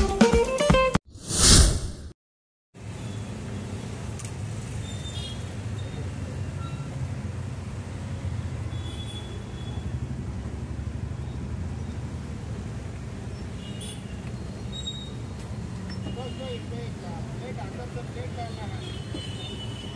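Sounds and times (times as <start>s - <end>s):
street ambience rumble: 2.8s - 19.9s.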